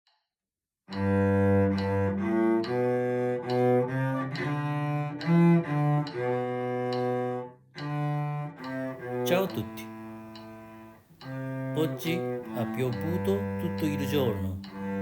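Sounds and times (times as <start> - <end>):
cello playing slow bowed melody: 0.8 - 15.0.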